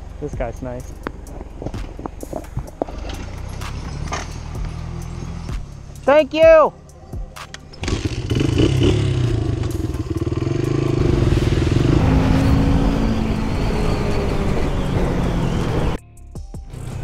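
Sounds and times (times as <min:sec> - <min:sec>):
dirt bike engine riding: 0:00.0 - 0:06.6, 0:07.3 - 0:16.0
sport bike engine riding: 0:00.0 - 0:16.0.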